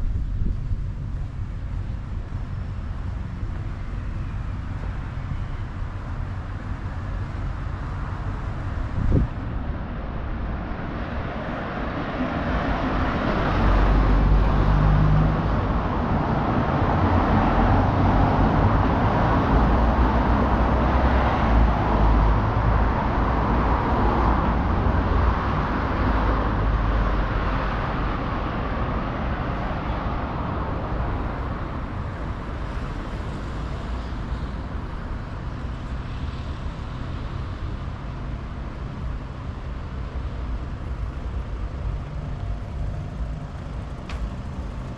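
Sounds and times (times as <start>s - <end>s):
vehicle engine and tyre noise: 0.0s - 44.9s.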